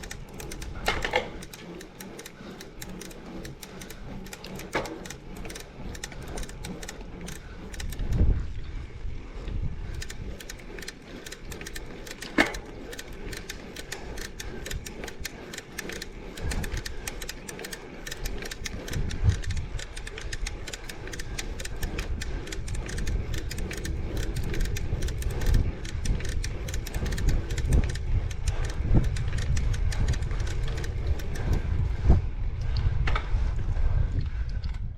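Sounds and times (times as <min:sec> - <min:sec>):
bicycle clicking: 0:00.0 - 0:34.9.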